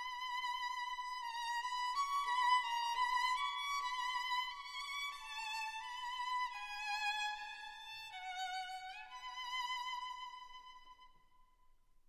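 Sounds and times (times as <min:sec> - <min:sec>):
slow violin melody: 0:00.0 - 0:11.2.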